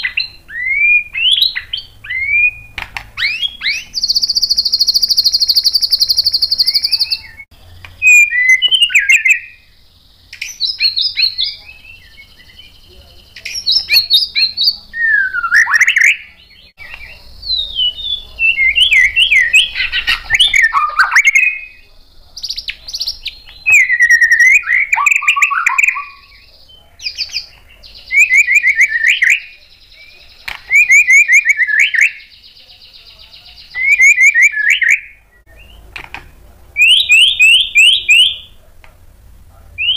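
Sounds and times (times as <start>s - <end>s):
songbird singing varied phrases: 0.0s - 38.7s.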